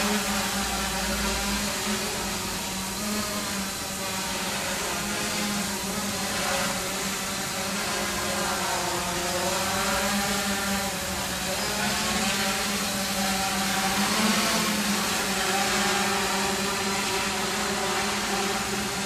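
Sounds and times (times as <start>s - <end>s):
quadcopter propellers buzzing: 0.0s - 19.0s.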